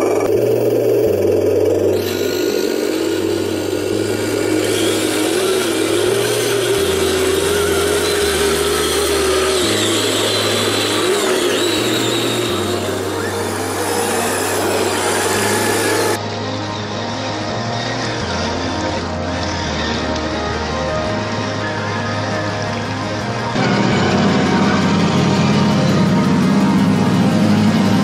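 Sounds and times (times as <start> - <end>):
electric motors and gears whining: 0.0 - 28.0.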